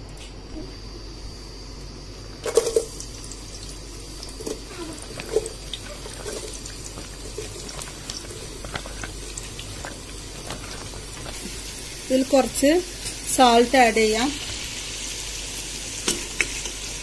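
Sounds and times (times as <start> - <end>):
oil frying onions in pan: 1.1 - 17.0.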